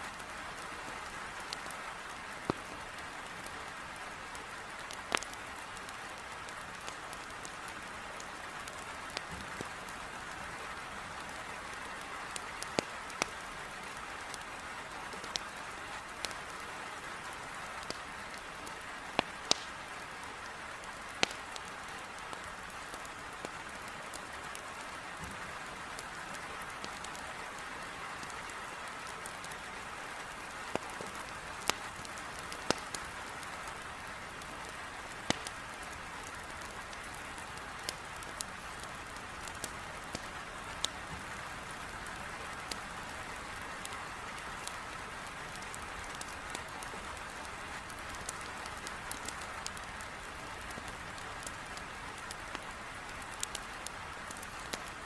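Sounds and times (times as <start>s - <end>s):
heavy rain on a window: 0.0s - 55.0s
wood fire crackling: 0.1s - 55.0s.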